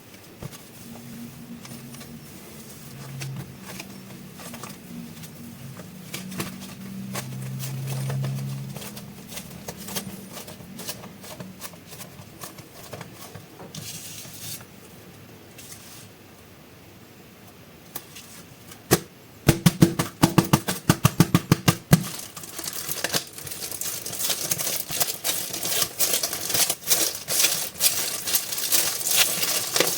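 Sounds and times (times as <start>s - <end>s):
faint low hum: 0.0s - 29.9s
plastic packaging crinkling: 0.3s - 14.7s, 19.9s - 29.9s.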